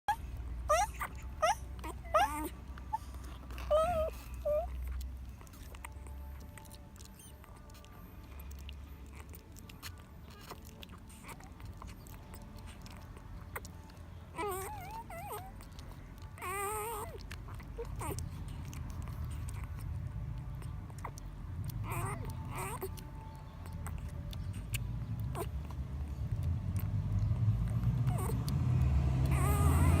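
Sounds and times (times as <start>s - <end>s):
puppy whining: 0.0s - 30.0s.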